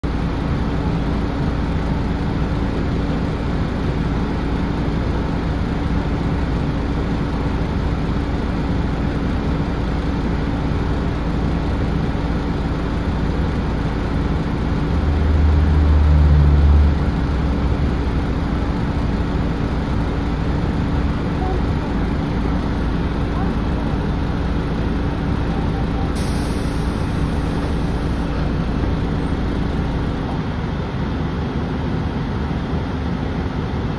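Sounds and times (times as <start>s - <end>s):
bus diesel engine idling: 0.0s - 33.9s
deeper engine rumble: 0.0s - 33.9s.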